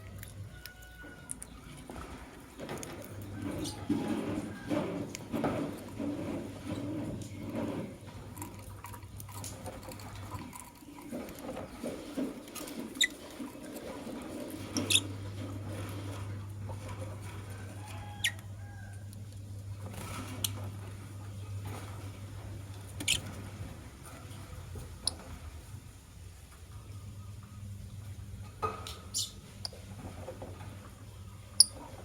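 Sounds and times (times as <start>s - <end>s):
birds scratching and shuffling: 0.0s - 32.0s.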